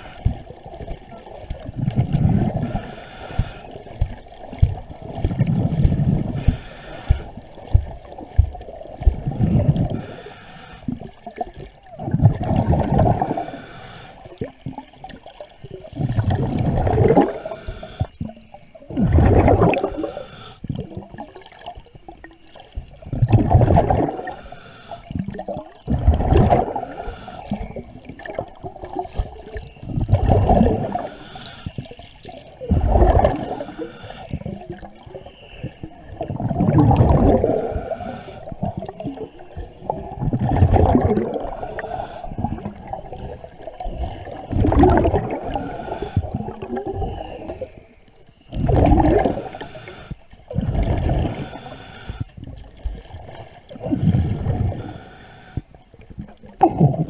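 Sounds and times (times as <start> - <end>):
diver's breath bubbling underwater: 0.0 - 14.6, 15.8 - 18.2, 18.9 - 21.6, 23.1 - 47.7, 48.5 - 57.0.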